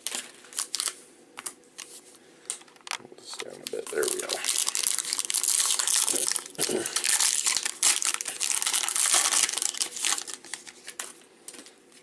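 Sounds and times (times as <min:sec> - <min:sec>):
plastic wrapper crinkling and tearing: 0:00.0 - 0:11.6.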